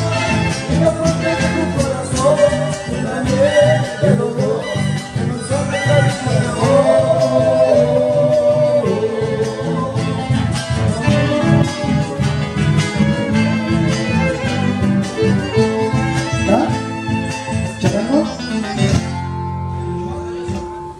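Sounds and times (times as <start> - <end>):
bass and drum beat: 0.0 - 19.9
acoustic guitar: 0.0 - 20.9
bandoneon: 0.0 - 20.9
violins: 0.0 - 20.9.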